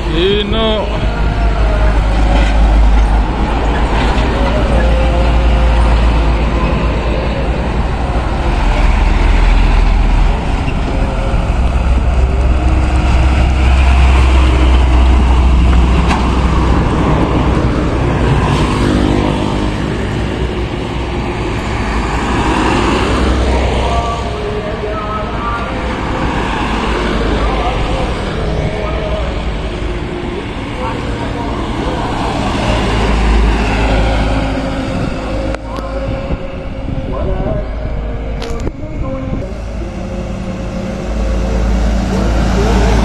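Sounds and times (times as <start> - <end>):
heavy trucks passing close by: 0.0 - 43.0.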